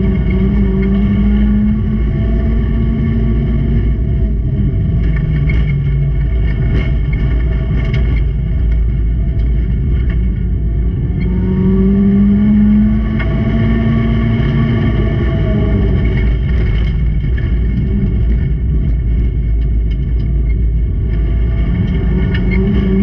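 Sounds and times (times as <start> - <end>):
race car engines running hard: 0.0 - 23.0.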